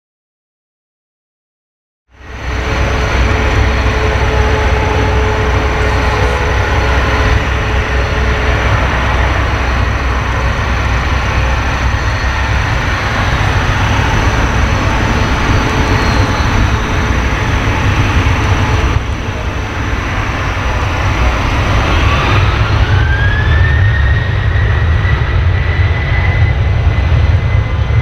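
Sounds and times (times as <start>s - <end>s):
jet engine whine: 2.1s - 28.0s
deep continuous rumble: 2.2s - 28.0s.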